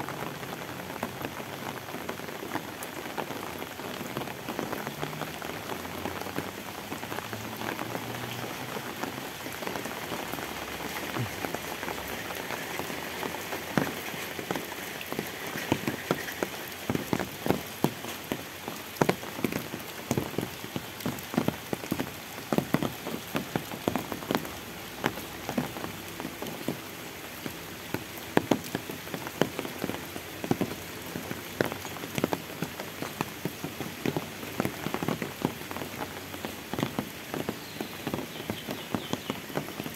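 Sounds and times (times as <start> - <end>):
rain on a wet road: 0.0 - 39.9.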